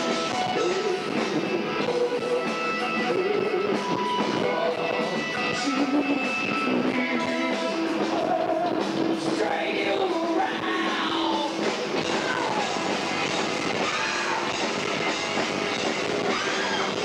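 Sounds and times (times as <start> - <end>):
person singing: 0.0 - 13.0, 16.2 - 17.0
rock band playing: 0.0 - 17.0.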